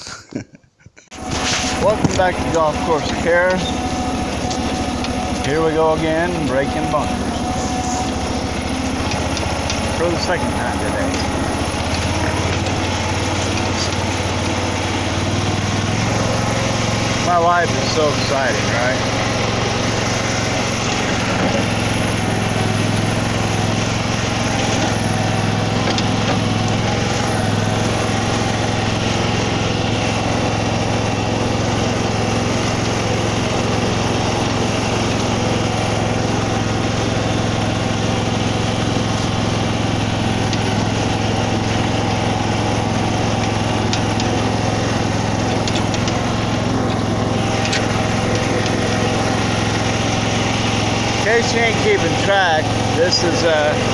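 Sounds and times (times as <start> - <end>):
small engine running: 1.1 - 53.9.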